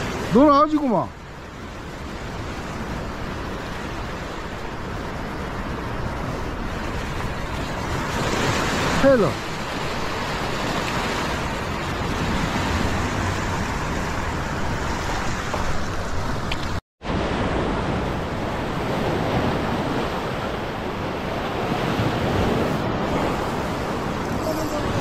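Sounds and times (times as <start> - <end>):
sea surf breaking over rocks: 0.0 - 25.0
wind on microphone: 1.3 - 25.0.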